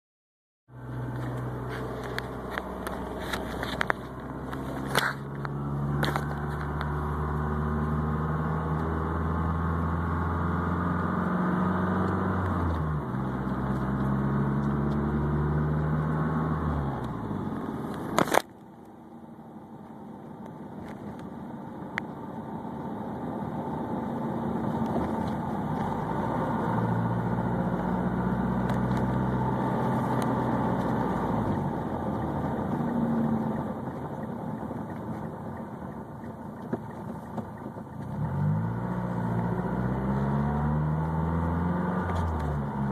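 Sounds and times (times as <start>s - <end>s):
car engine running: 0.7s - 42.9s.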